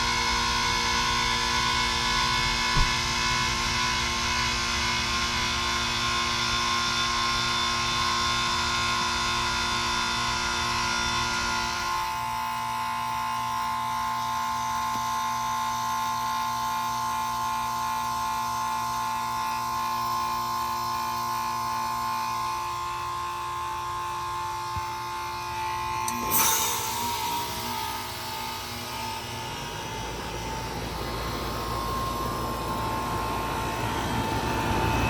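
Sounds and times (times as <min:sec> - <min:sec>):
compressor buzzing hum: 0:00.0 - 0:35.0.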